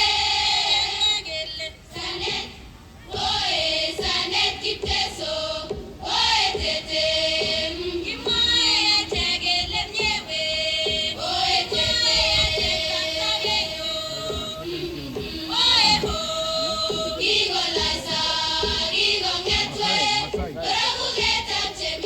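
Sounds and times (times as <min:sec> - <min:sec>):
group singing a chant: 0:00.0 - 0:22.0
musical backing: 0:00.0 - 0:22.0.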